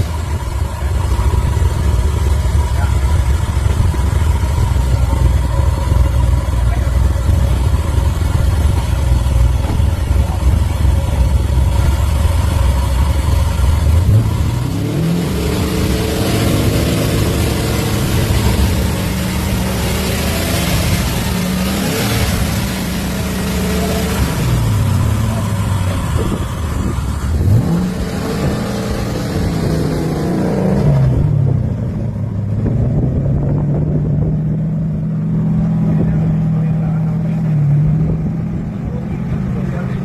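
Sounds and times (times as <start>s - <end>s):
rushing noise: 0.0s - 34.4s
car engine revving: 0.0s - 40.0s.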